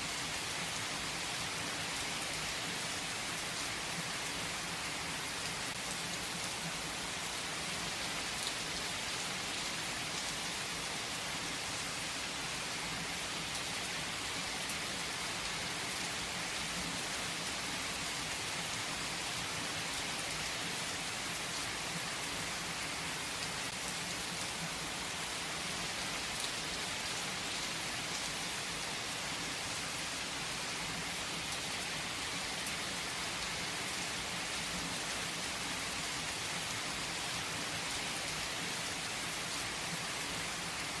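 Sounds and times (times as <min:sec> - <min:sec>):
heavy rain on leaves: 0:00.0 - 0:41.0.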